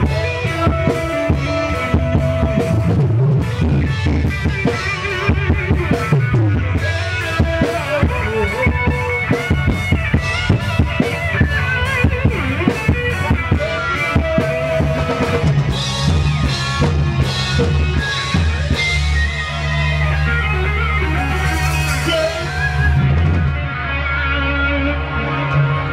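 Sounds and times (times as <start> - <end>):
drum kit beat: 0.0 - 24.0
bass notes: 0.0 - 25.9
electric guitar lines: 0.0 - 25.9.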